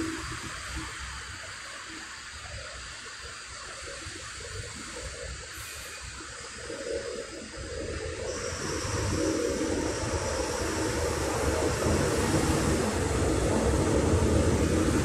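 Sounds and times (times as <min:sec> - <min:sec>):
hiss of wheels on rail: 0:00.0 - 0:15.0
low train rumble: 0:00.0 - 0:15.0.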